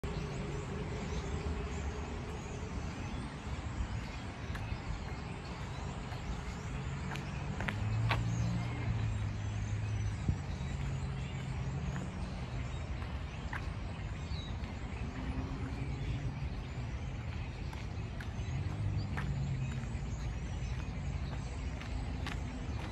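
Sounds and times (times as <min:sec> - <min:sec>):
distant road traffic rumble: 0:00.0 - 0:22.9.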